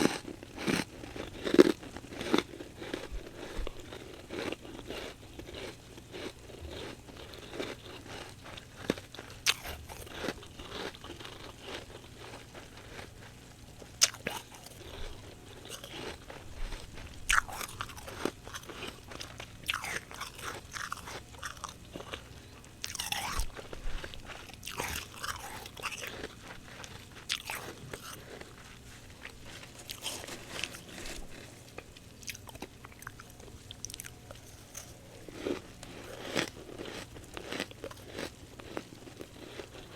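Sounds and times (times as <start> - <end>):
frost being bitten and chewed: 0.0 - 39.9.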